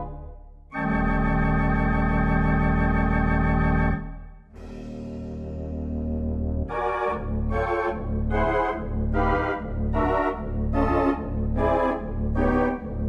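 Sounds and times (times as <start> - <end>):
organ chords over held bass: 0.0 - 13.0.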